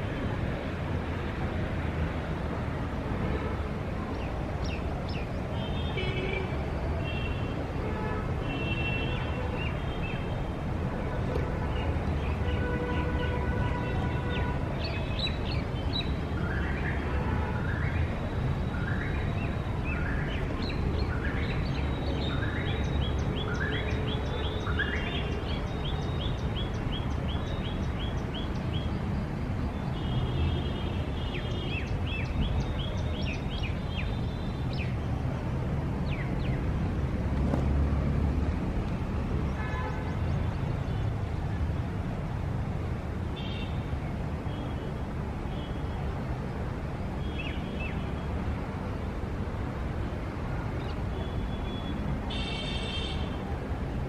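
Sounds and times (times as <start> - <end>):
city traffic rumble: 0.0 - 54.0.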